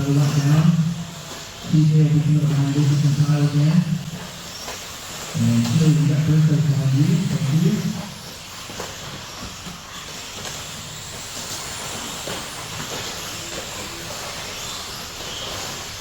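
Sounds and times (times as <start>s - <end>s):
electric motors hissing: 0.0s - 16.0s.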